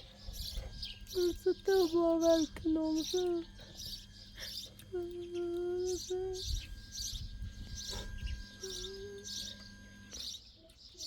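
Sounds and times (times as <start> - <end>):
drawn-out steady calls: 0.0 - 10.5
small birds chirping: 0.0 - 11.0.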